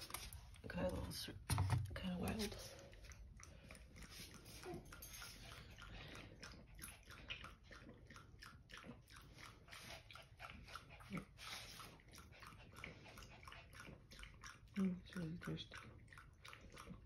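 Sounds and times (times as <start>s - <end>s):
dog lapping water: 0.0s - 17.0s.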